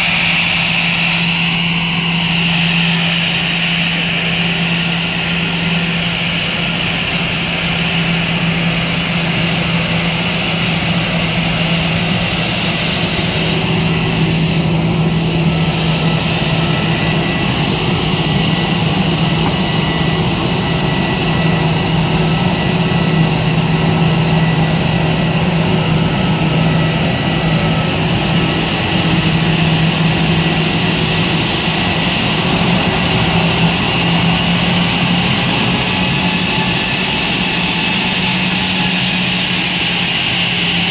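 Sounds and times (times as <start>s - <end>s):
jet engines idling: 0.0s - 40.9s.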